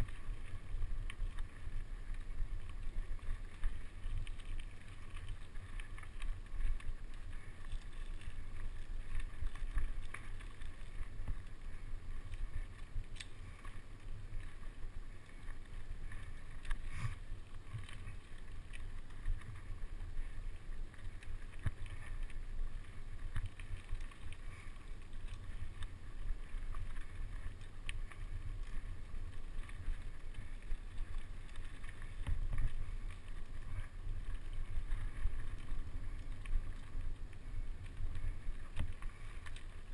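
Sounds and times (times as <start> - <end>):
wind and tyre noise rumble: 0.0 - 39.9.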